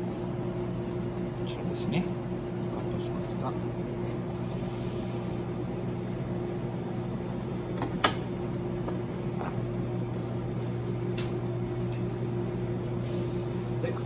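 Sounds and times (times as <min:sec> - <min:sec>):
kitchen equipment humming: 0:00.0 - 0:14.0.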